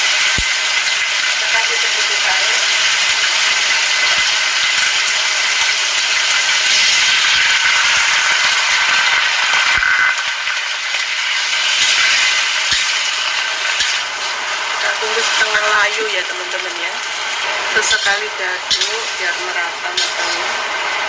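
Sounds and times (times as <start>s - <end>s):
vegetables sizzling in hot oil: 0.0s - 21.0s
water poured into pan: 0.0s - 21.0s.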